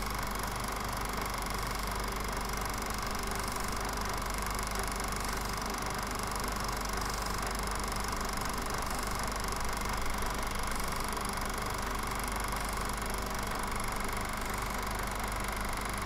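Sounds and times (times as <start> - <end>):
steady machine hum with hiss: 0.0 - 16.0.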